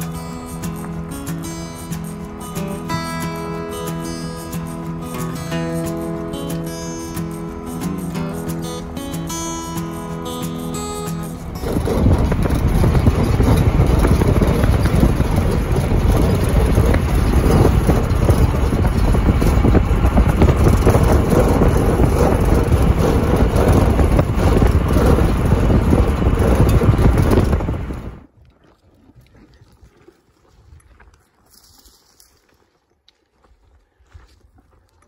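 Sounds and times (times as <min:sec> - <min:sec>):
vehicle wind and road noise: 0:00.0 - 0:28.3.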